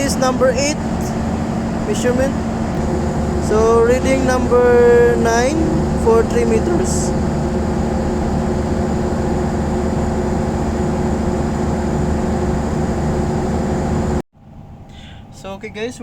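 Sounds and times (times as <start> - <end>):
generator engine running: 0.0 - 14.2.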